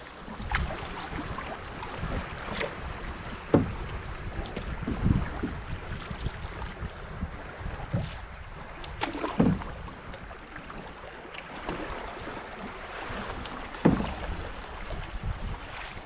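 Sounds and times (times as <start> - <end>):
water against canoe hull: 0.0 - 16.0
low knocks on hull: 0.3 - 10.3, 12.6 - 16.0.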